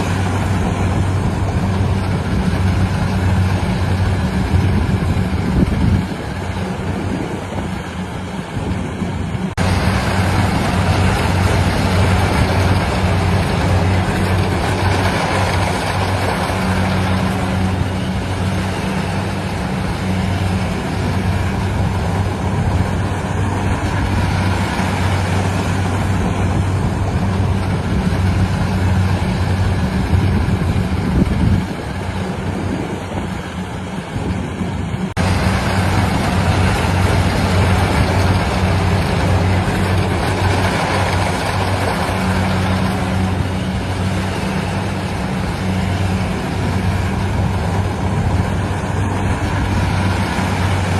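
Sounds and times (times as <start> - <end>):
harvester engine running: 0.0 - 50.9.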